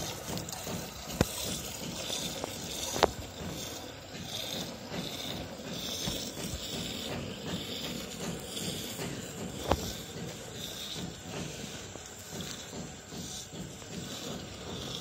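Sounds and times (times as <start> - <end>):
milk squirting into metal pot: 0.0 - 15.0.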